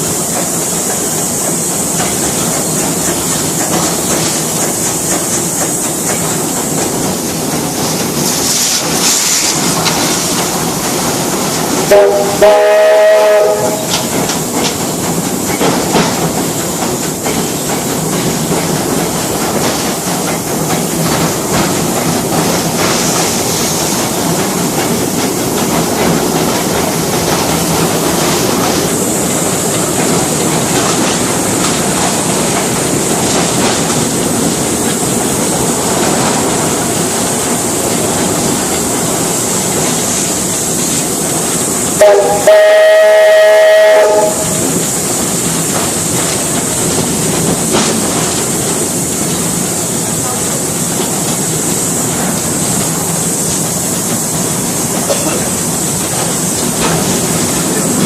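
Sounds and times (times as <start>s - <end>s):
wheels clicking over rails: 0.0s - 12.4s, 13.4s - 42.4s, 44.0s - 58.0s
train rumbling: 0.0s - 58.0s.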